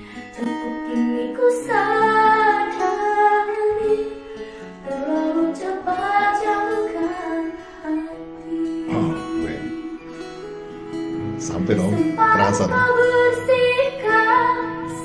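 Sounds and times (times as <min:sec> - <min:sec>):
woman singing: 0:00.0 - 0:10.5, 0:11.8 - 0:15.0
instrumental accompaniment: 0:00.0 - 0:15.0.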